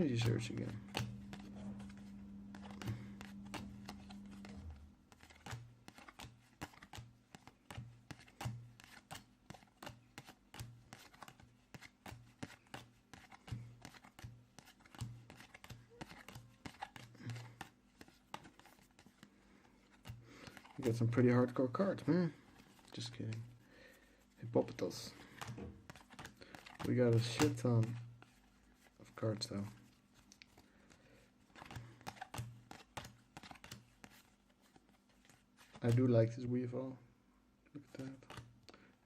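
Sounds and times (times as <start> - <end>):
trading cards clicking and sliding: 0.0 - 23.6, 24.6 - 28.6, 29.2 - 36.1, 37.9 - 38.5.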